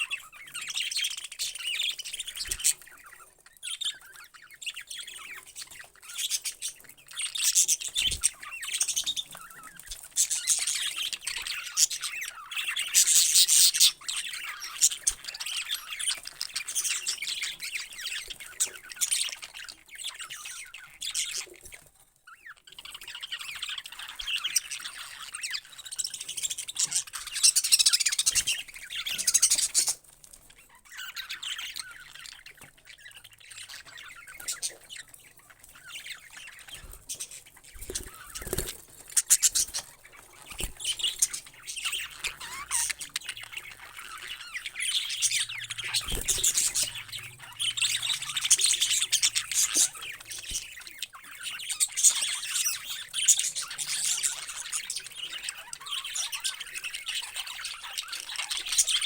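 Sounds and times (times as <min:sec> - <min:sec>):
parrots chirping and squawking: 0:00.0 - 0:59.0.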